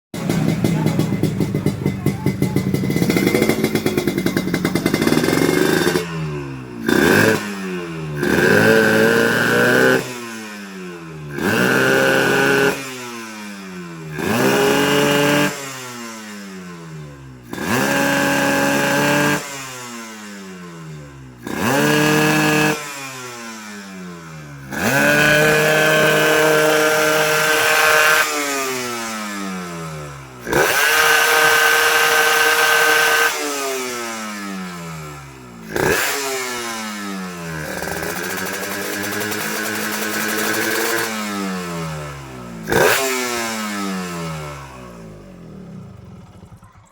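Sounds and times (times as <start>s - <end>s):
motorcycle engine revving: 0.1s - 46.9s.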